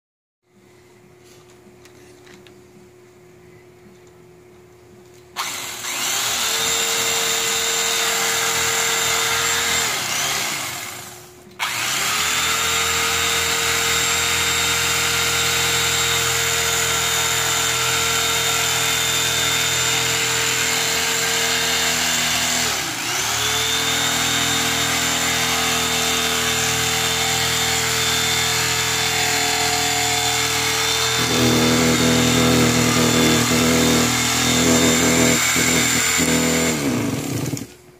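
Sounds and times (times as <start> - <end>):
electric carving knife cutting foam: 5.4 - 37.8.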